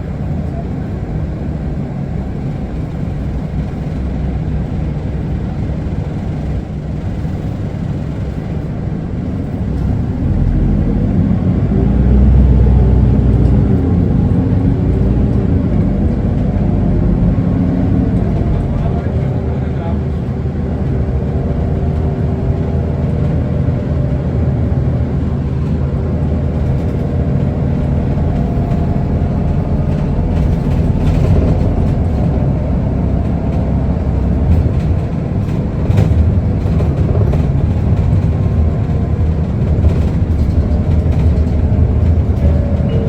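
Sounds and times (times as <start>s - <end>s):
bus diesel engine drone: 0.0s - 43.0s
road and body rumble: 0.0s - 43.0s.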